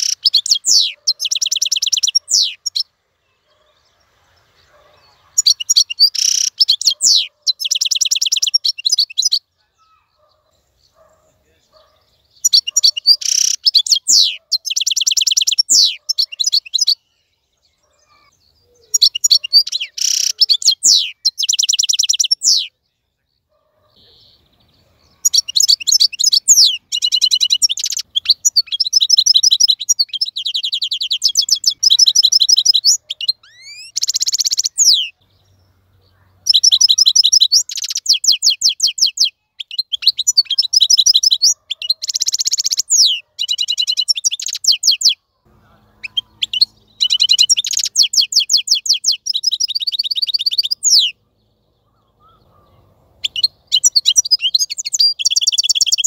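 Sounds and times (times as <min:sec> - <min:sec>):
goldfinch singing: 0:00.0 - 0:03.8, 0:04.6 - 0:22.7, 0:24.1 - 0:51.2, 0:51.8 - 0:56.0.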